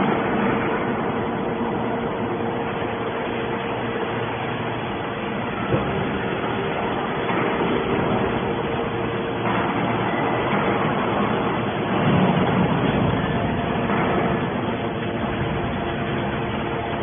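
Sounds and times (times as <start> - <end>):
hydraulic baler press running: 0.0 - 17.0.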